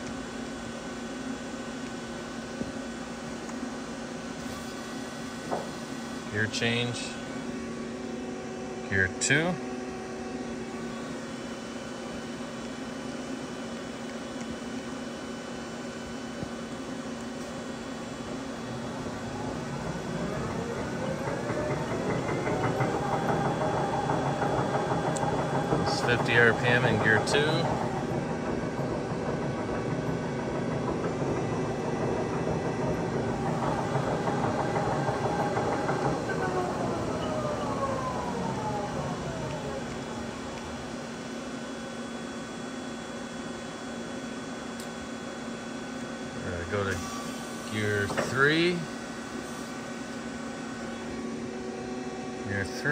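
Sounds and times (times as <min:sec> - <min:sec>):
lathe machine hum: 0:00.0 - 0:52.9.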